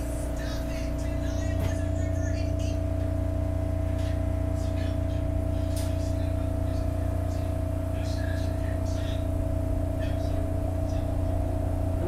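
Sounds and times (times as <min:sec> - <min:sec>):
subway car low rumble: 0:00.0 - 0:12.0.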